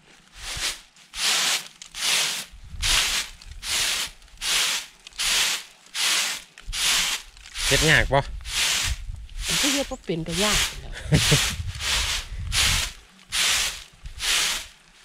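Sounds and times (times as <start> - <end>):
rice swishing in winnowing tray: 0.0 - 15.0.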